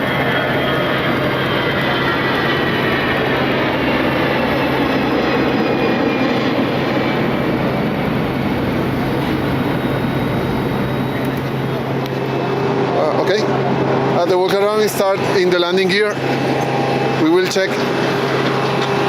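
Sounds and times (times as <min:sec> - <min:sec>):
aircraft turbine noise: 0:00.0 - 0:19.0
low hum: 0:00.0 - 0:19.0.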